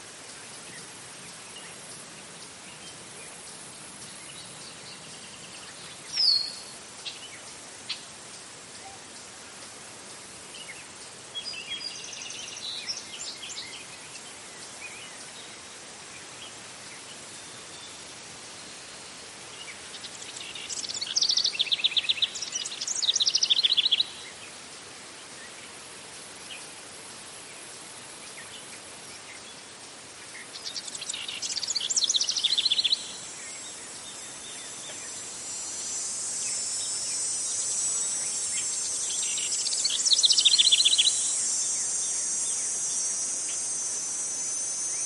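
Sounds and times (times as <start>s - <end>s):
songbirds singing: 0.0s - 45.0s
steady background hiss: 0.0s - 45.0s.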